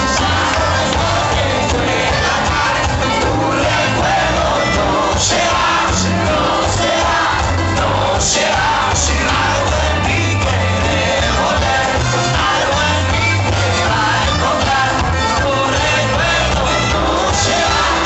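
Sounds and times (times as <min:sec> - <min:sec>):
heavy bass: 0:00.0 - 0:18.0
loud music with singing: 0:00.0 - 0:18.0.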